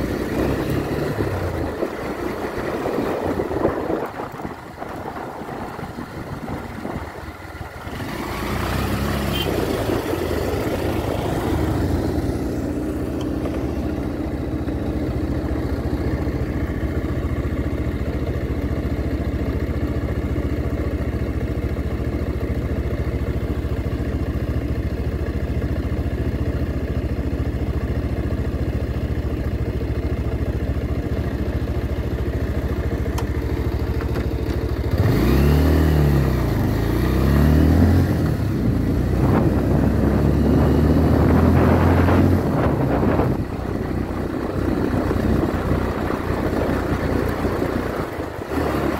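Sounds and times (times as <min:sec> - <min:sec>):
motorcycle engine running: 0:00.0 - 0:48.9
road and wind rush: 0:00.0 - 0:48.9.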